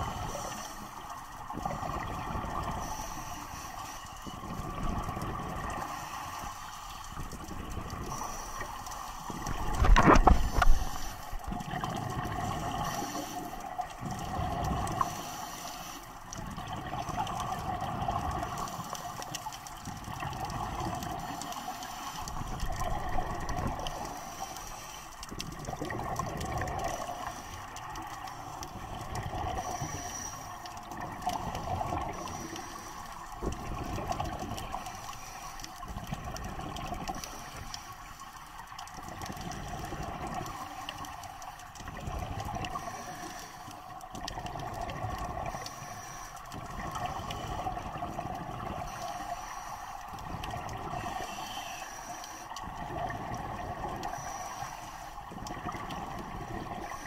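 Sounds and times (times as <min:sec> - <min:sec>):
scuba regulator bubbles gurgling: 0:00.0 - 0:57.0
steady underwater hum: 0:00.0 - 0:57.0.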